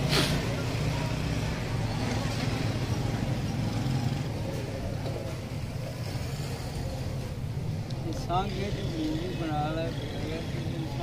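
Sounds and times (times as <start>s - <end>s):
background noise: 0.0s - 11.0s.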